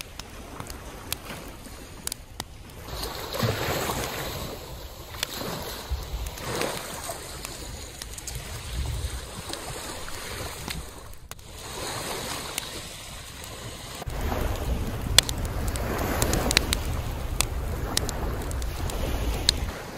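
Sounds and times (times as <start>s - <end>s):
waves washing onto shore: 0.0s - 19.9s.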